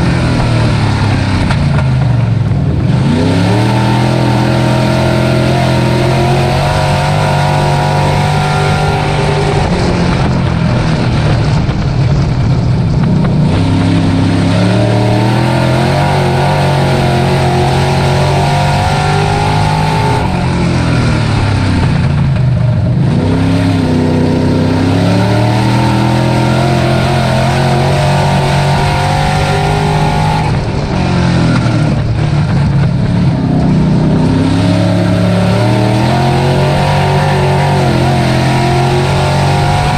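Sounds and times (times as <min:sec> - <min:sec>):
race truck engine running hard: 0:00.0 - 0:39.9.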